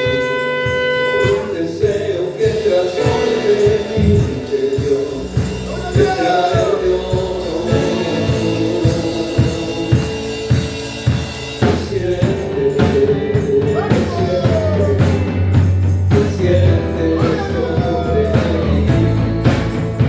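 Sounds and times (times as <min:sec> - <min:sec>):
bass line: 0:00.0 - 0:20.0
drum kit beats: 0:00.0 - 0:20.0
worship band music: 0:00.0 - 0:20.0.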